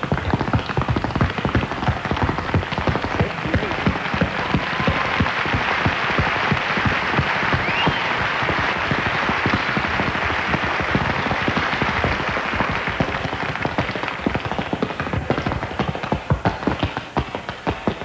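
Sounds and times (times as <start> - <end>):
audience applause: 0.0 - 17.0
tap shoes on wooden stage: 0.0 - 18.0.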